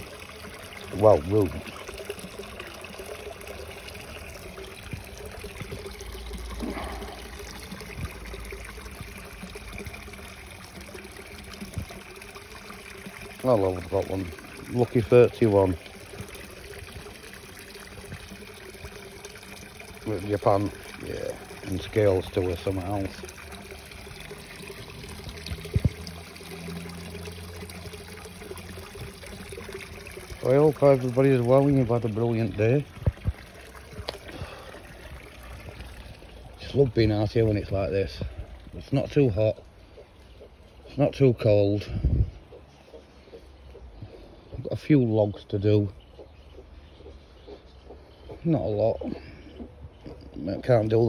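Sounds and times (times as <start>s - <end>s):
water trickling into a pond: 0.0s - 51.0s.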